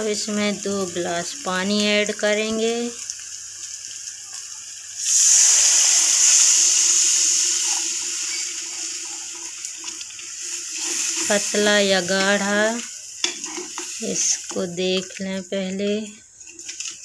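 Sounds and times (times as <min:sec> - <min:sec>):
hot oil hissing and sizzling: 0:00.0 - 0:17.0
water pouring: 0:00.1 - 0:14.8.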